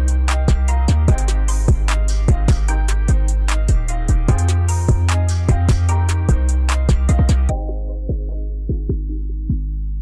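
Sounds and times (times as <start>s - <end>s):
deep sustained bass: 0.0s - 10.0s
trap beat: 0.0s - 10.0s.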